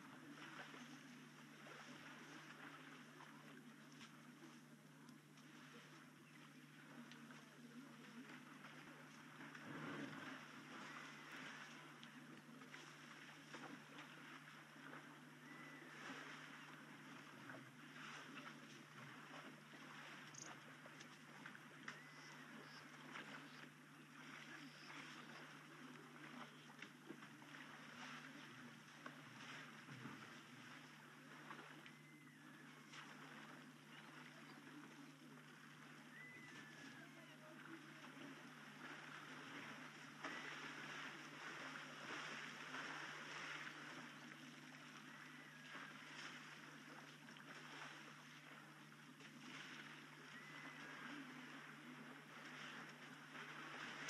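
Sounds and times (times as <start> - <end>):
low electrical hum: 0.0 - 54.0
water splashing and sloshing: 0.0 - 54.0.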